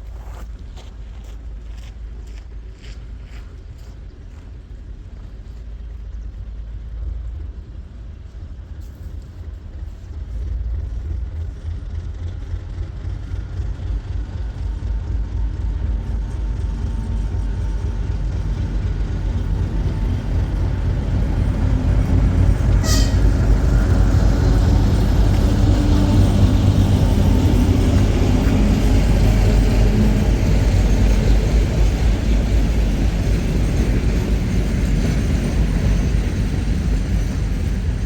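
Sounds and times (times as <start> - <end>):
train rumble: 0.0 - 38.0.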